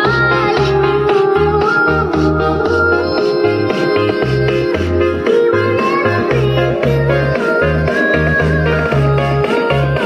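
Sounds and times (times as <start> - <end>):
heavy bass notes: 0.0 - 10.0
sliding keyboard-like lead melody: 0.0 - 10.0.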